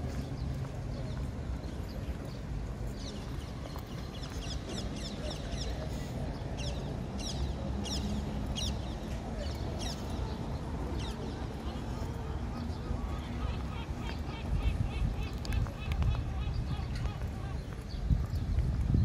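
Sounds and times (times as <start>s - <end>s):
low city rumble: 0.0s - 19.0s
birds calling: 1.1s - 18.5s.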